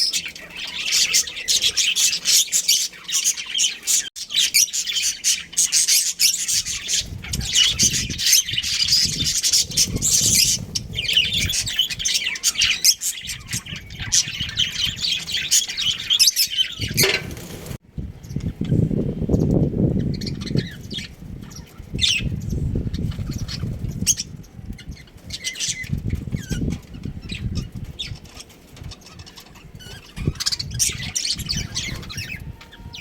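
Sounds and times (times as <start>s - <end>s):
budgerigars chirping and chattering: 0.0s - 17.6s, 19.4s - 33.0s.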